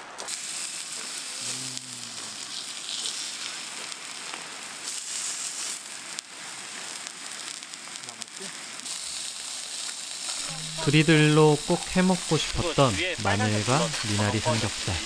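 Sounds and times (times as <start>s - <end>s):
meat sizzling on griddle: 0.0s - 15.0s.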